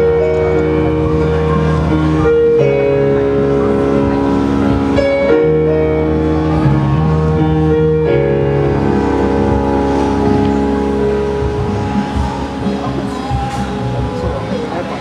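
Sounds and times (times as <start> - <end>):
piano-led rock band playing live: 0.0 - 15.0.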